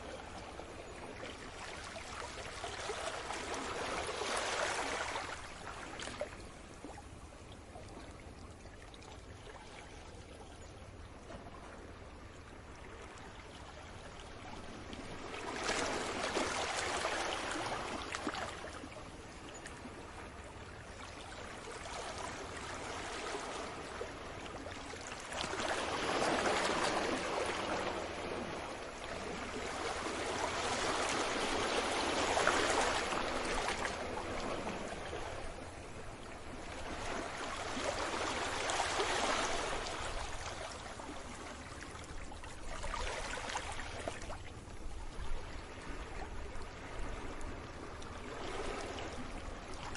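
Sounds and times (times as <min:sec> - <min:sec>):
small waves washing onto shore: 0:00.0 - 0:10.0, 0:11.1 - 0:49.9.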